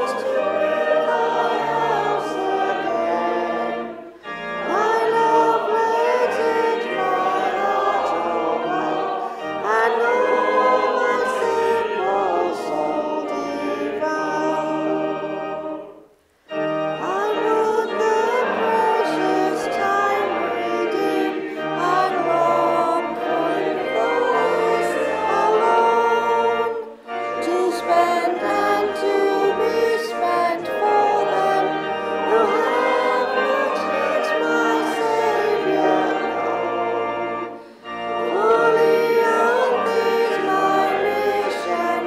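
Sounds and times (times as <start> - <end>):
congregation singing a hymn: 0.0 - 42.0
organ accompaniment: 0.0 - 42.0.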